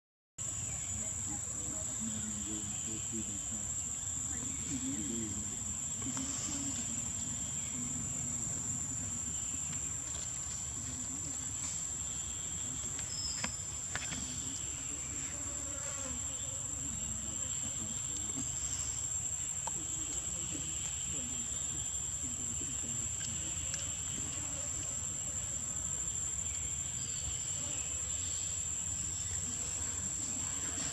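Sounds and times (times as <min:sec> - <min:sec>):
insects droning: 0:00.4 - 0:30.9.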